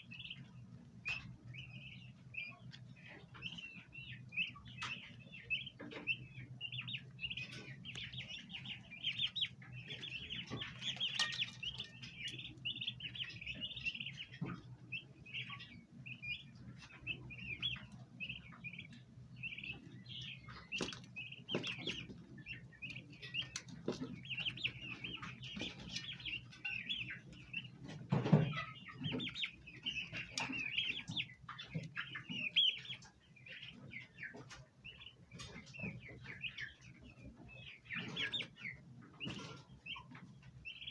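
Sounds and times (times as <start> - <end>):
turkey poults chirping: 0.0 - 40.9.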